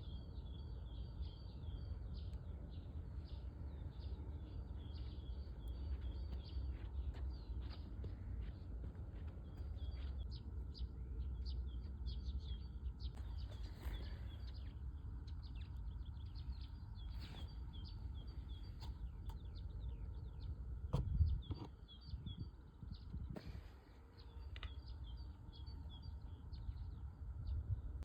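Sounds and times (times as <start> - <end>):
songbirds chirping and singing: 0.0 - 28.0.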